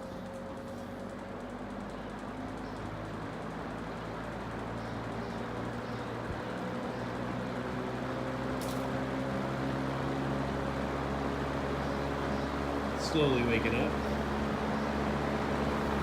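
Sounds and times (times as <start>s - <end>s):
box fan motor hum and blade rush: 0.0s - 16.0s.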